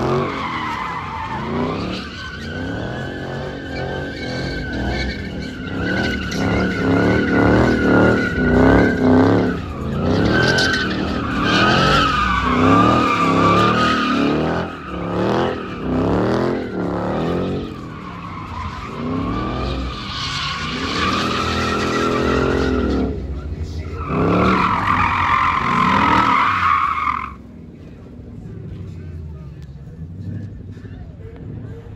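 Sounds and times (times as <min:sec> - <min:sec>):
car engine revving: 0:00.0 - 0:31.9
tires squealing: 0:00.0 - 0:31.9.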